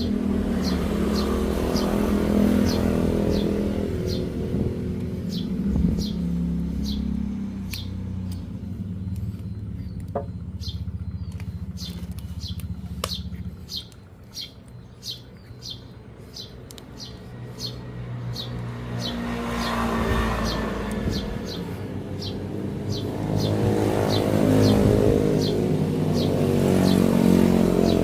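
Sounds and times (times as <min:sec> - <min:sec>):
motorcycle engine running: 0:00.0 - 0:28.0
small bird chirping: 0:00.0 - 0:28.0.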